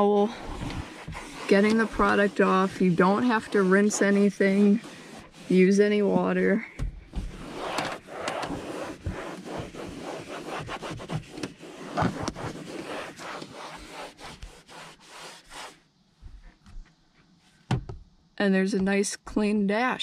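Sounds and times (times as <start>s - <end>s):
towel rubbing plastic dashboard: 0.0s - 16.8s.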